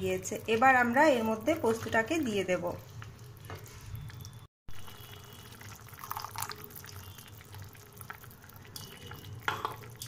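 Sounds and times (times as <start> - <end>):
potatoes bubbling in water: 0.0 - 10.0.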